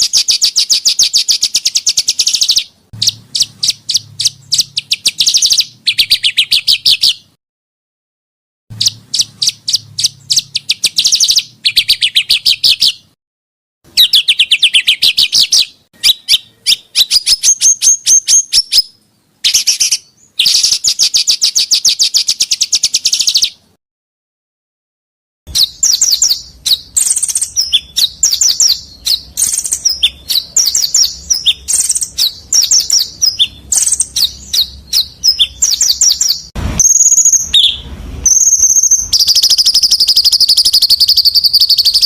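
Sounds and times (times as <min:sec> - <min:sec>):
songbird singing rapid high notes: 0:00.0 - 0:07.3, 0:08.7 - 0:13.2, 0:13.9 - 0:23.7, 0:25.5 - 0:42.0.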